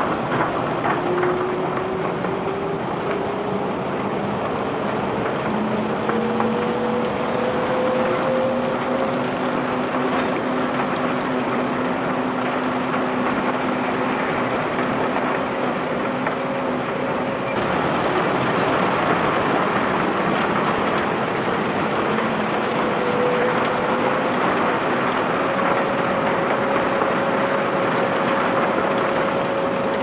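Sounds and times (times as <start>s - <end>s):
ore rushing over conveyor belt: 0.0s - 30.0s.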